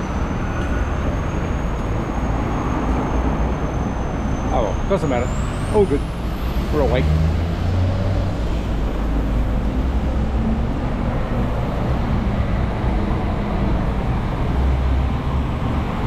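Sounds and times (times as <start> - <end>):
road noise: 0.0 - 16.0
vehicle engines rumbling: 0.0 - 16.0.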